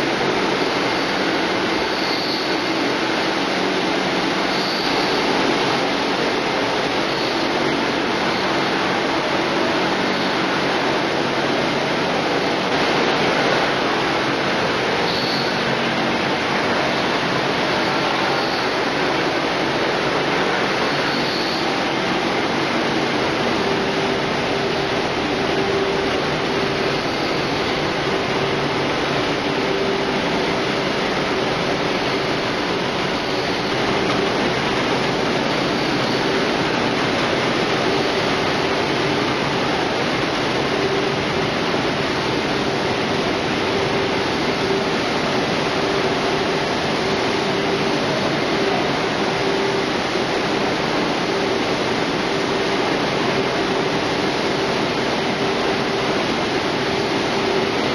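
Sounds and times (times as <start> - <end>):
production line machinery running: 0.0 - 57.9.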